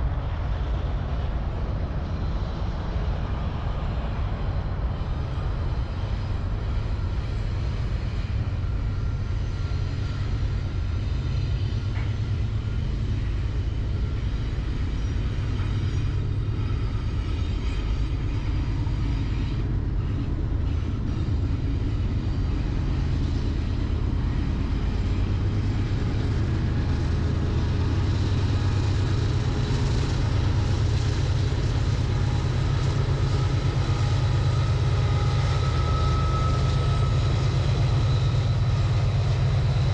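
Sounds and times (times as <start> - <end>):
diesel locomotives rumbling: 0.0 - 39.9.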